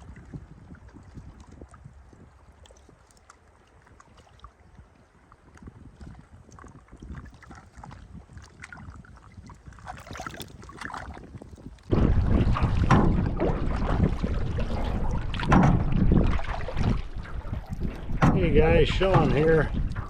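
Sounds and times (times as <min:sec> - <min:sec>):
faint water sounds: 0:00.0 - 0:20.0
wind rumble on microphone: 0:00.0 - 0:20.0.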